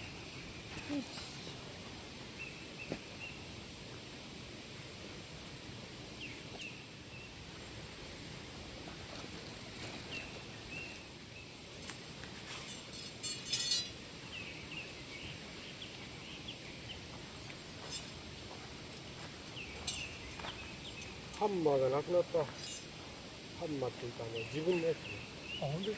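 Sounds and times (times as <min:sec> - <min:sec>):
small birds chirping: 0:00.0 - 0:03.6, 0:06.1 - 0:07.4, 0:09.1 - 0:25.9
quiet forest ambience: 0:00.0 - 0:25.9.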